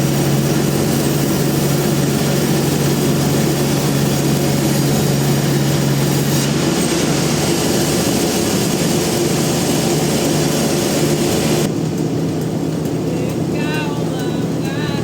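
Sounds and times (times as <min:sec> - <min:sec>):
low hum: 0:00.0 - 0:15.0
sawmill machinery running: 0:00.0 - 0:15.0.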